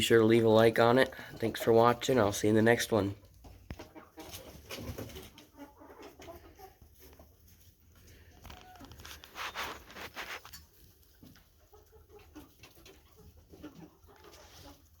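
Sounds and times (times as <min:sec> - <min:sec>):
young chickens clucking: 0:00.0 - 0:15.0.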